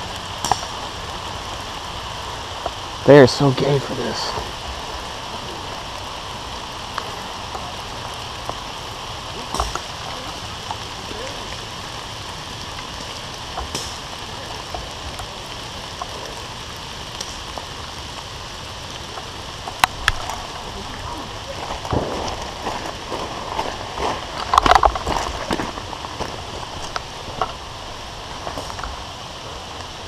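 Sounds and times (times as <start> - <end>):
rain on leaves: 0.0 - 30.0.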